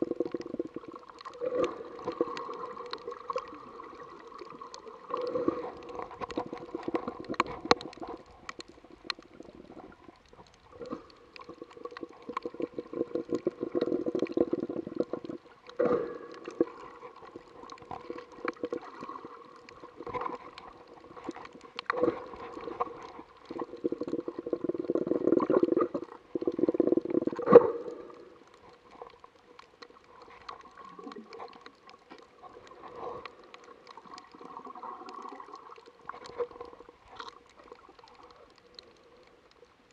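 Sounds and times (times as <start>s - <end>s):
clicks and crackles: 0.0s - 39.9s
muffled rush of water underwater: 0.0s - 39.9s.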